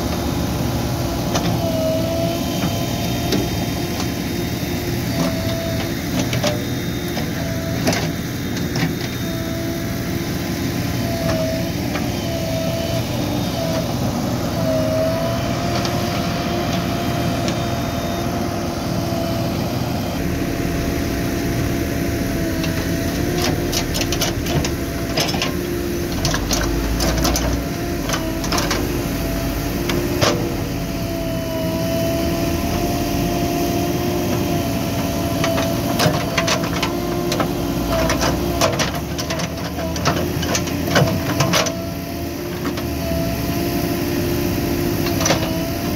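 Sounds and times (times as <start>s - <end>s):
wavering whine: 0.0s - 38.2s
diesel engine running under load: 0.0s - 45.9s.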